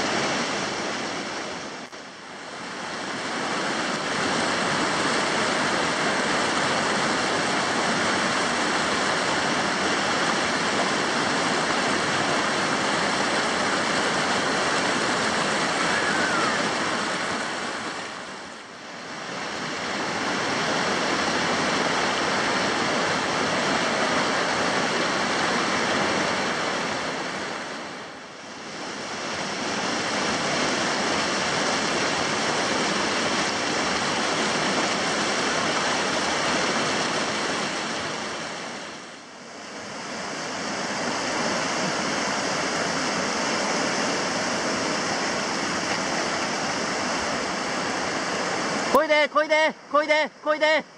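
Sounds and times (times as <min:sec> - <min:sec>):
whitewater rapids rushing: 0:00.0 - 0:50.9.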